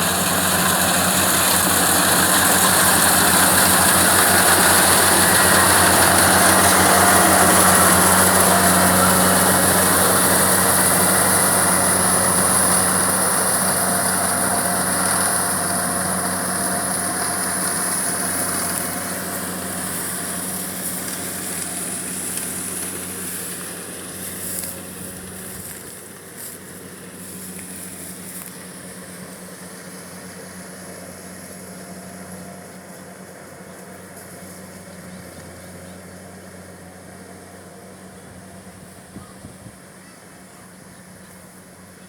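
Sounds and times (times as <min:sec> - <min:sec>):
harvester engine humming: 0:00.0 - 0:42.0.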